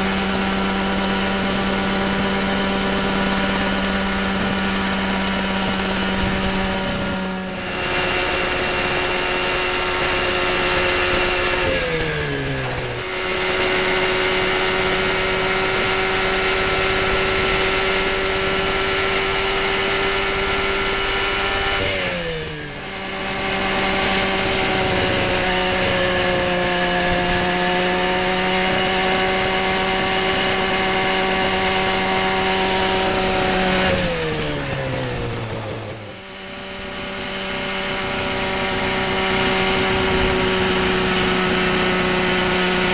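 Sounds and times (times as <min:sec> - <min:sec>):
helicopter engine and rotor: 0:00.0 - 0:42.9.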